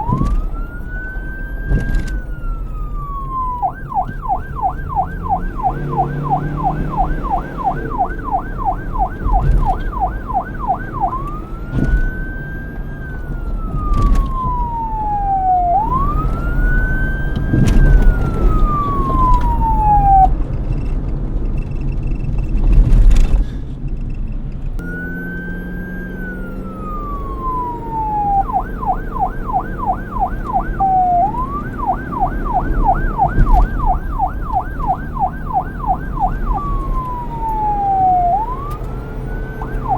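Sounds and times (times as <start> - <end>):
police siren yelp and wail: 0.0 - 20.4, 24.8 - 39.9
low traffic rumble: 0.0 - 39.9.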